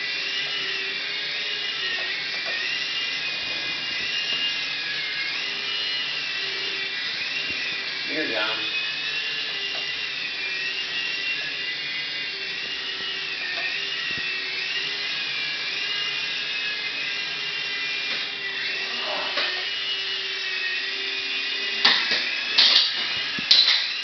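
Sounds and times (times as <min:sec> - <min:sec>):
toy helicopter motor whine: 0:00.0 - 0:24.0.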